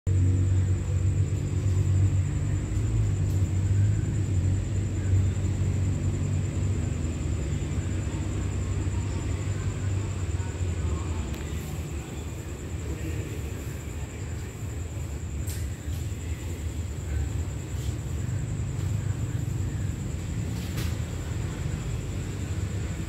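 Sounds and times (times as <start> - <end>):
low mechanical rumble with hum: 0.1 - 23.0.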